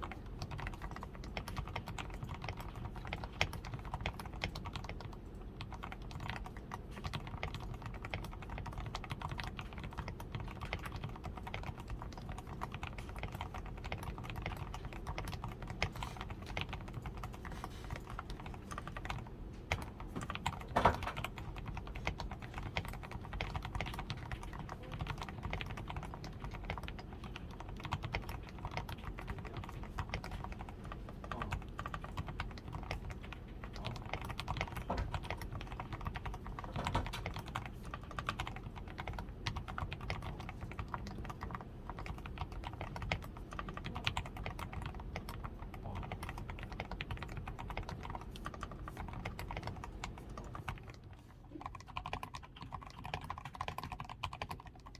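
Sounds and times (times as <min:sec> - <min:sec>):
mechanical keyboard typing: 0:00.0 - 0:54.9.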